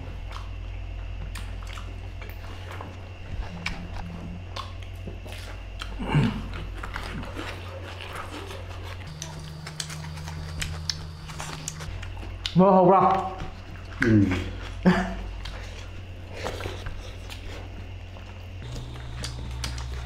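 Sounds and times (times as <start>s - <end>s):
people chewing and eating: 0.0s - 20.0s
steady low hum: 0.0s - 20.0s.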